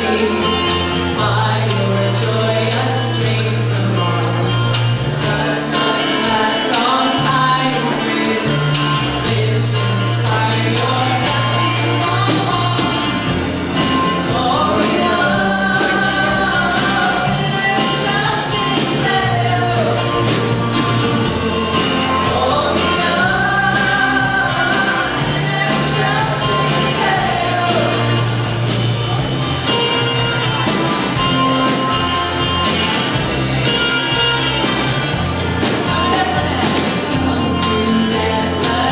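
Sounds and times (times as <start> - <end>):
person singing: 0.0 - 28.5, 35.6 - 38.9
bass line: 0.0 - 38.9
drum kit: 0.0 - 38.9
electric and acoustic guitars: 0.0 - 38.9
keyboard: 0.0 - 38.9.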